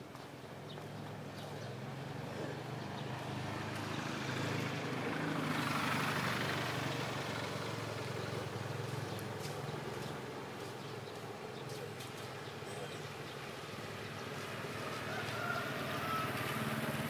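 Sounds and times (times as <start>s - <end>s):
low engine hum: 0.0s - 17.0s
vehicle passing by: 0.6s - 17.0s.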